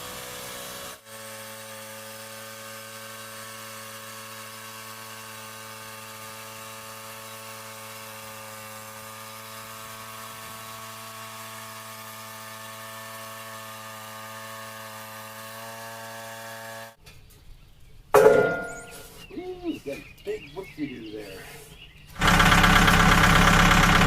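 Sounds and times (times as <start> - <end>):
sawmill machine hum: 0.0 - 17.0, 18.2 - 24.0.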